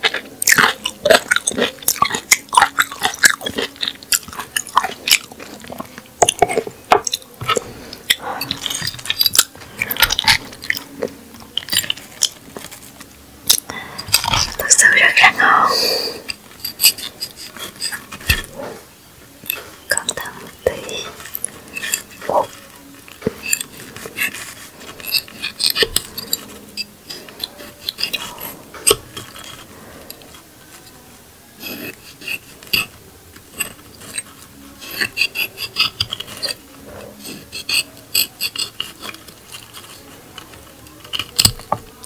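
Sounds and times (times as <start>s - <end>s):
knife scraping cactus stem: 0.0s - 13.0s, 16.2s - 31.0s, 31.6s - 42.0s.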